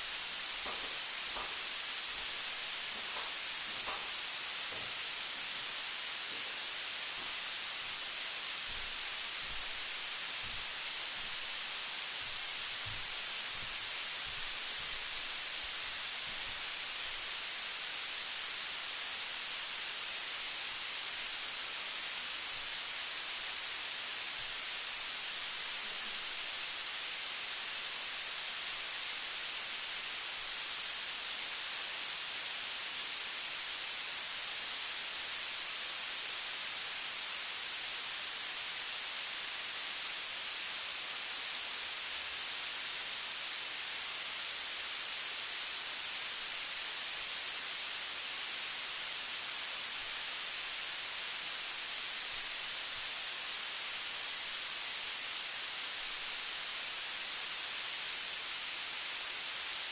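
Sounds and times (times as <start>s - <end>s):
white-noise hiss: 0.0s - 59.9s.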